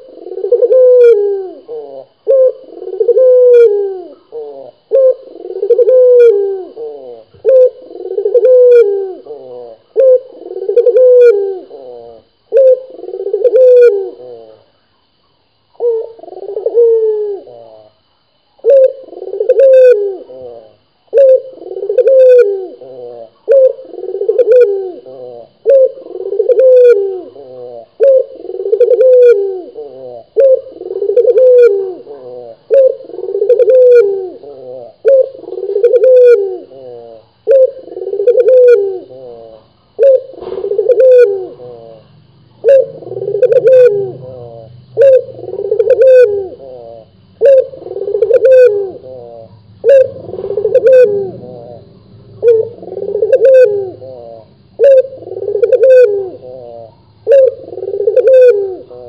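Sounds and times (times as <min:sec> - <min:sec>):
dove cooing: 0:00.0 - 0:14.9, 0:15.7 - 0:59.0.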